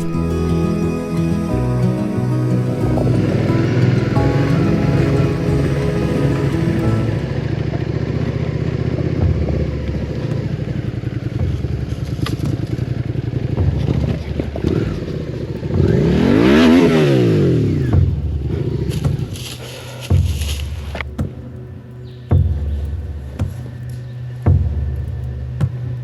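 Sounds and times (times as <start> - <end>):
motorcycle engine running: 0.0 - 21.5.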